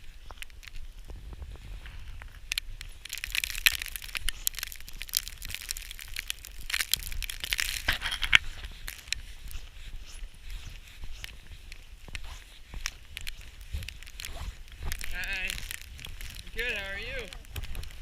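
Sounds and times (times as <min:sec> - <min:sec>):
footsteps crunching dry snow: 0:00.0 - 0:18.0
wind rumble on microphone: 0:00.0 - 0:18.0.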